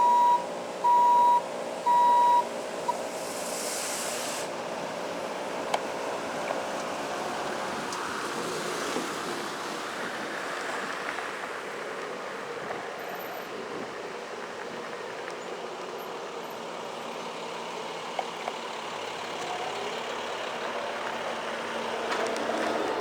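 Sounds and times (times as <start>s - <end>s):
road noise: 0.0s - 23.0s
wind: 0.0s - 23.0s.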